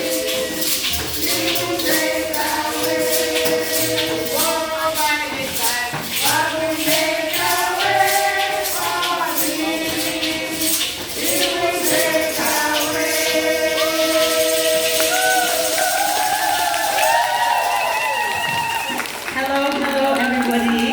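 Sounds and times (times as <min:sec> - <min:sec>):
group of voices singing: 0:00.0 - 0:17.8
tambourine shaken on the beat: 0:00.0 - 0:19.0.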